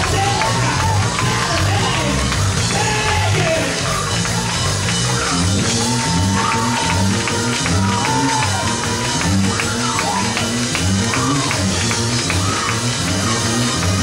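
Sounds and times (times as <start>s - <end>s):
fast percussion beat: 0.0s - 14.0s
pulsing bass notes: 0.0s - 14.0s.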